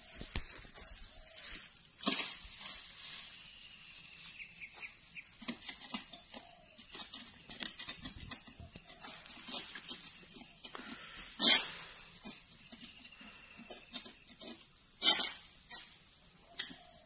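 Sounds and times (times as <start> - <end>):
rustling: 0.0 - 15.4.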